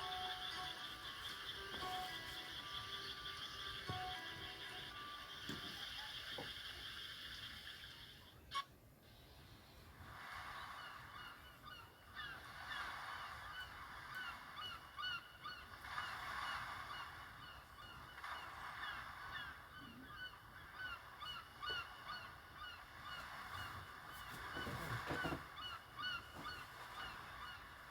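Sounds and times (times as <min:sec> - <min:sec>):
ringtone of birds calling: 0:00.0 - 0:09.4, 0:10.6 - 0:27.9.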